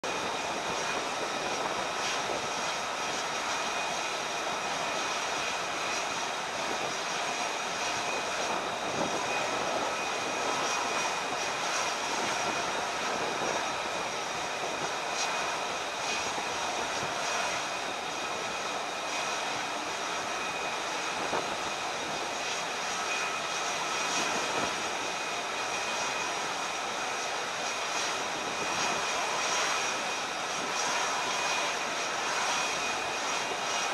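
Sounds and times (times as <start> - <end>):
high-pitched engine whine: 0.0 - 33.9
jet engines rushing: 0.0 - 33.9.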